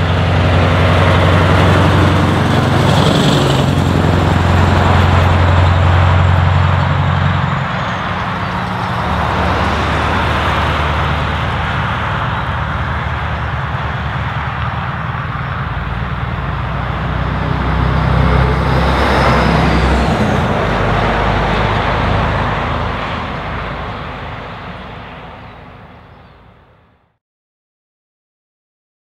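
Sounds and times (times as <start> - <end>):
truck engine driving away: 0.0 - 26.8.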